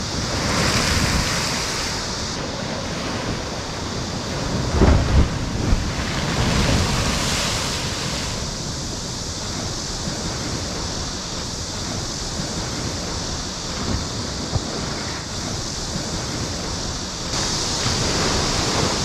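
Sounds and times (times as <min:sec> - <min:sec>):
hissing spray and surf: 0:00.0 - 0:19.0
sea waves crashing on shore: 0:00.0 - 0:19.0.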